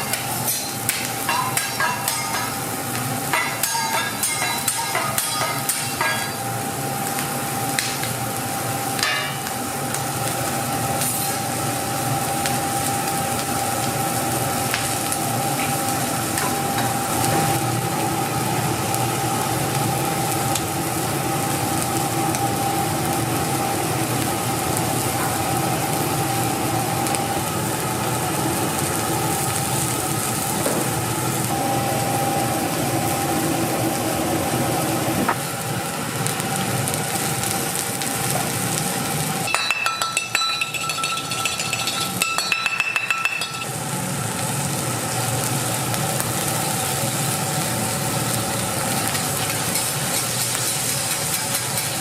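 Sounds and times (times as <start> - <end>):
mechanical hum with whine: 0.0 - 52.0
rice sizzling in a pan: 0.0 - 52.0.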